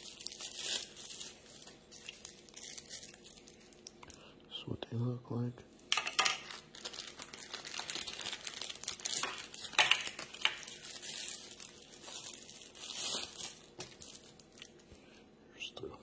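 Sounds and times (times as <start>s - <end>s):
plastic bag crinkling: 0.0s - 4.0s, 5.9s - 14.9s.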